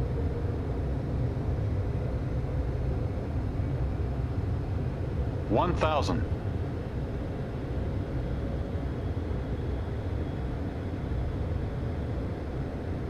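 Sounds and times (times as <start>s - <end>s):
faint steady hum: 0.0s - 13.0s
jet engines and airflow rumble: 0.0s - 13.0s.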